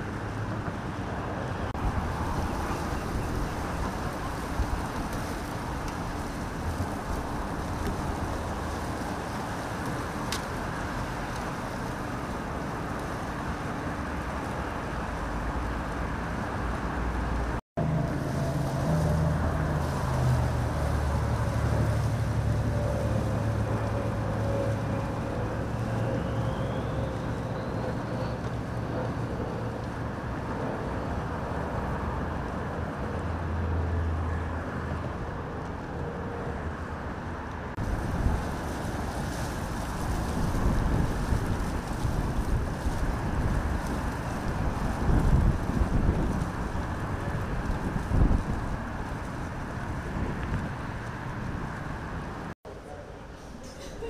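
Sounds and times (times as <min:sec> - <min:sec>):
vehicle engine running close by: 0:00.0 - 0:52.5
road traffic passing: 0:00.0 - 0:54.0.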